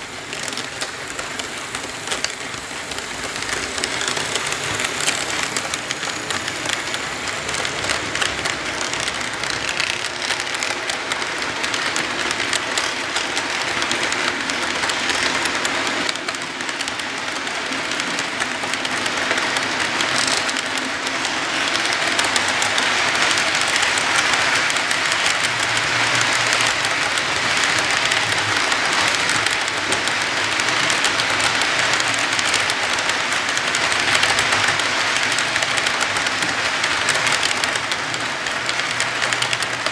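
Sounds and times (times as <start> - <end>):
model train wheels rattling on track: 0.0 - 39.9.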